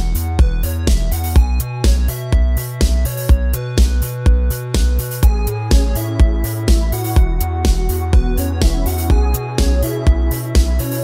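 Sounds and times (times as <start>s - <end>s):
bass-heavy beat music: 0.0s - 11.0s.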